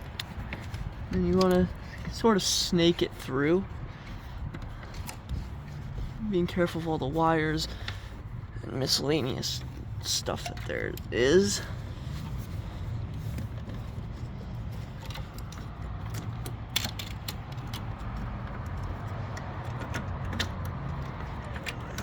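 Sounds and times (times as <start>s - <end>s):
light clicks and rattles of wire: 0.0s - 22.0s.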